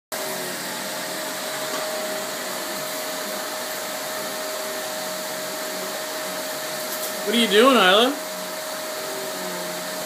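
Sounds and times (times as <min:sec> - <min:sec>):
vacuum cleaner running: 0:00.1 - 0:10.0.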